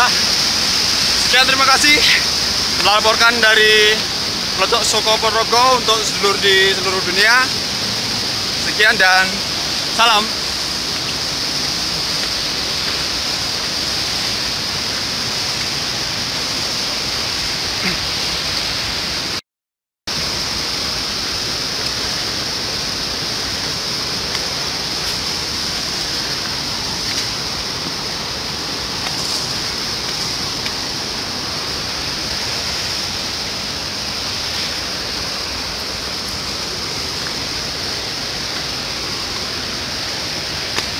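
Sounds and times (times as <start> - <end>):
steady high hiss: 0.0 - 19.4, 20.2 - 40.9
waterfall rushing: 0.0 - 19.4, 20.1 - 40.9.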